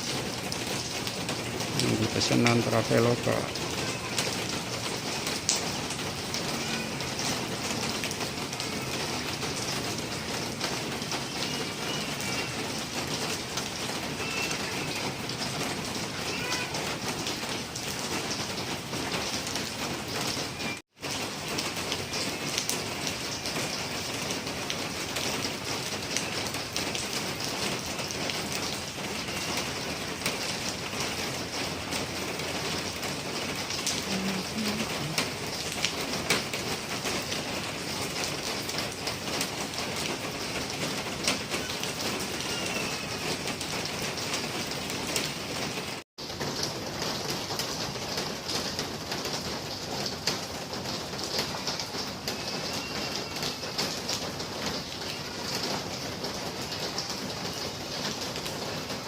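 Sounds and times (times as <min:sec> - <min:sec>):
raindrops striking a surface: 0:00.0 - 0:59.0
steady rain: 0:00.0 - 0:59.0.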